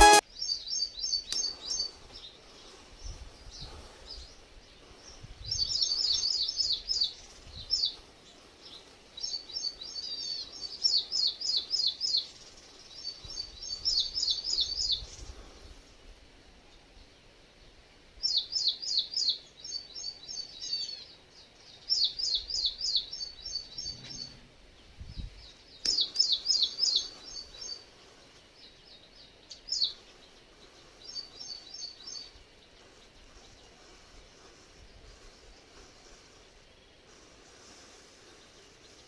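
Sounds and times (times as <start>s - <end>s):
songbird singing: 0.0s - 16.0s, 16.6s - 39.0s.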